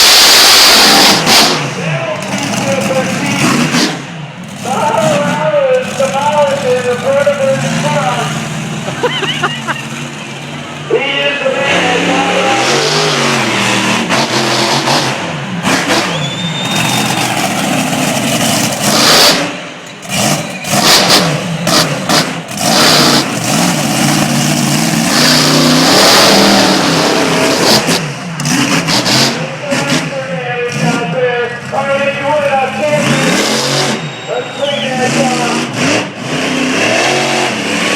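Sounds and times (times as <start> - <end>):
truck engine revving: 0.0 - 37.9.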